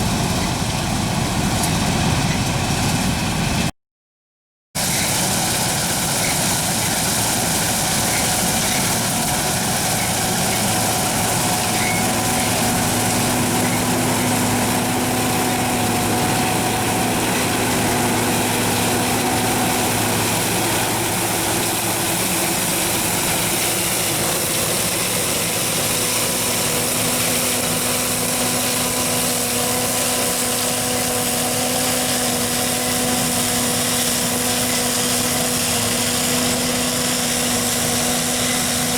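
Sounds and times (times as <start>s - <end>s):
combine harvester machinery drone: 0.0s - 3.7s, 4.8s - 38.9s
steady machine whine: 4.8s - 38.9s.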